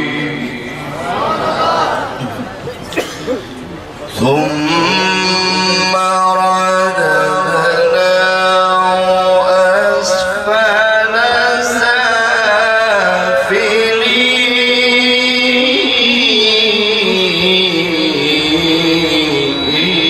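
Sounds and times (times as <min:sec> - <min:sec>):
man reciting melodically: 0:00.0 - 0:01.3, 0:04.0 - 0:20.0.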